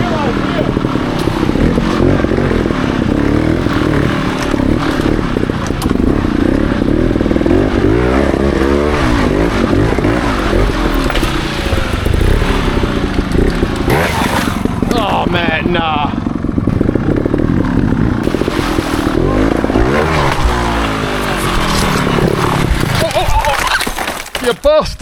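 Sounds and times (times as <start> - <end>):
motorcycle engine revving: 0.0 - 23.6.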